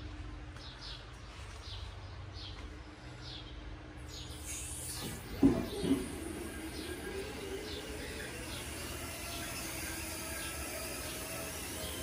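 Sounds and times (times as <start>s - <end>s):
small birds chirping: 0.5s - 12.0s.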